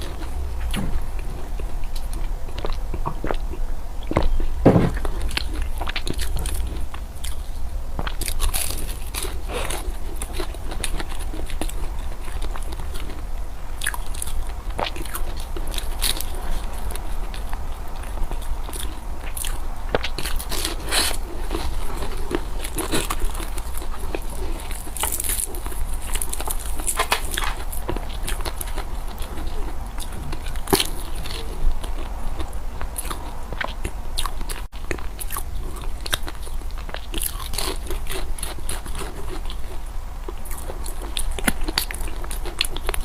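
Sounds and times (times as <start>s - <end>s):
chewing and crunching food: 0.0s - 43.0s
steady low hum: 0.0s - 43.0s.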